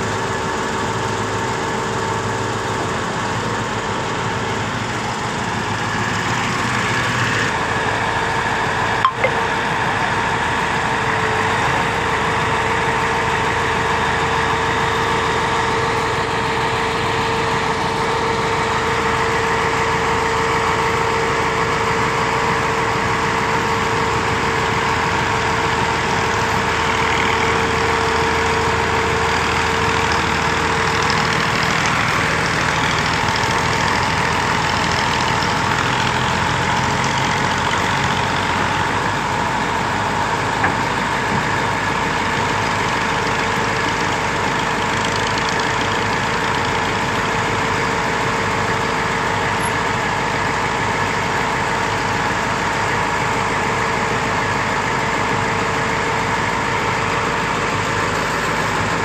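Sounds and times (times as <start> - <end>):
diesel engine running: 0.0 - 59.0
hydraulic whine: 0.0 - 59.0.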